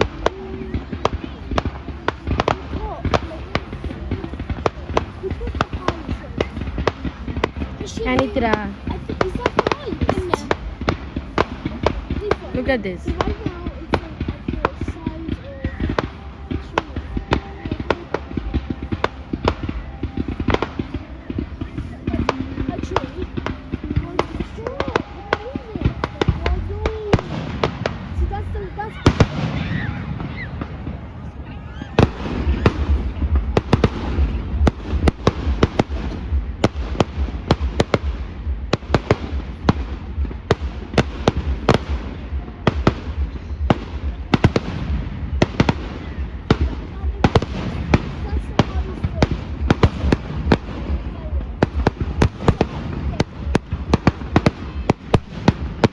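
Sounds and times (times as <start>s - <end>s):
fireworks crackling: 0.0s - 55.9s
low rumble: 0.0s - 55.9s
sharp firework reports: 0.0s - 55.9s.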